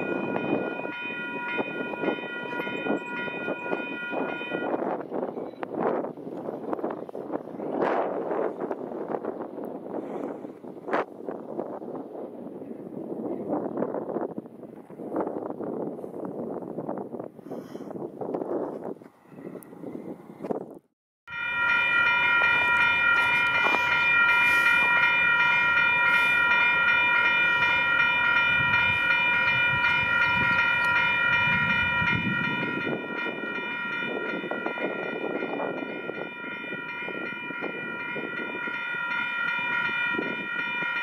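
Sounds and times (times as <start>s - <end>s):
train rumble: 0.0s - 16.8s, 21.3s - 41.0s.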